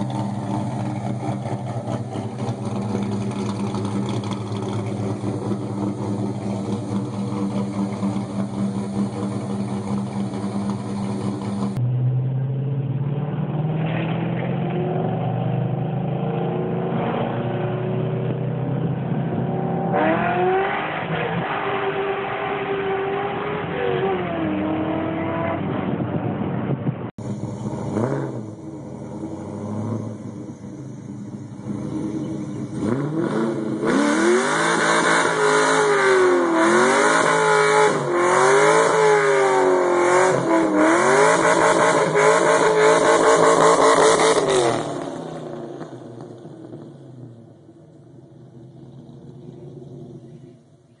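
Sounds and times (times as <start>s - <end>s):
car engine revving: 0.0s - 51.0s
road noise inside car: 0.0s - 51.0s.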